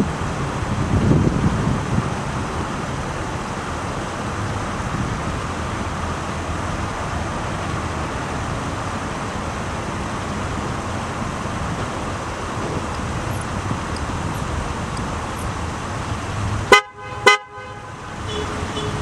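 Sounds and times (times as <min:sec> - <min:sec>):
low engine rumble: 0:00.0 - 0:16.8
road and wind noise: 0:00.0 - 0:19.0.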